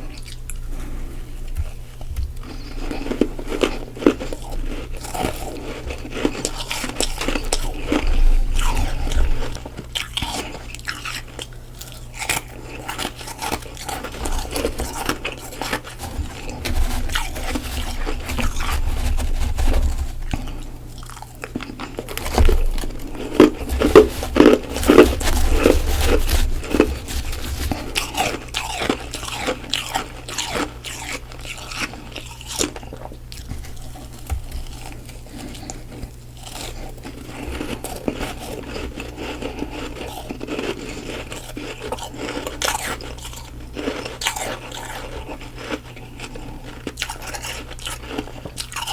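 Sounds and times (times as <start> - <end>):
crunching frost being chewed: 0.0 - 48.9.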